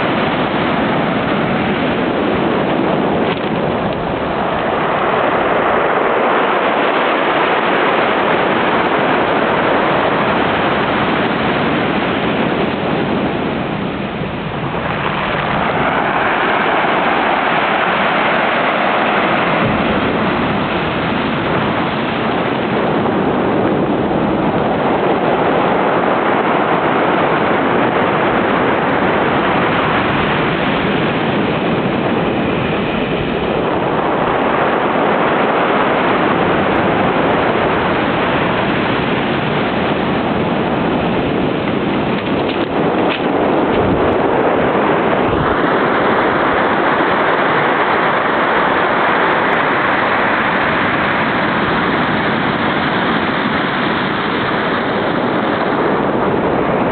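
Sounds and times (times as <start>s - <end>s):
surf breaking on beach: 0.0s - 56.9s.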